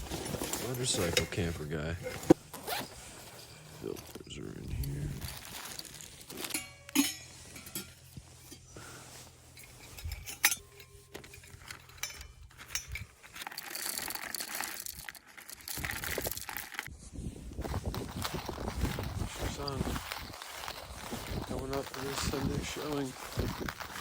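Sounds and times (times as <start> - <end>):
light rattling and rustling: 0.0 - 16.9, 17.5 - 24.0
metal and glass clinks: 0.0 - 16.9, 18.0 - 24.0.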